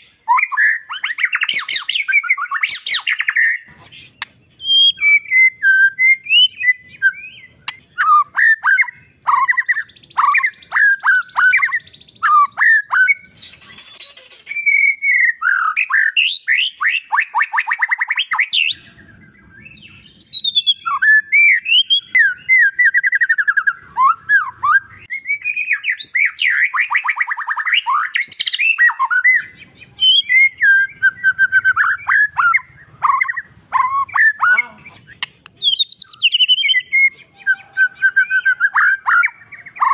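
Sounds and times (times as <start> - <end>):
bird singing whistled phrases and trills: 0.0 - 39.9.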